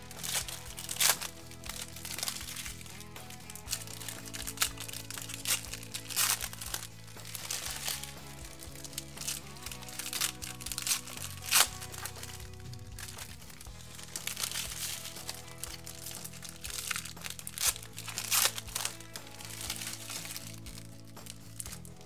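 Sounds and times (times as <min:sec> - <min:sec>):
background music: 0:00.0 - 0:22.0
foil wrappers crinkling: 0:00.0 - 0:22.0.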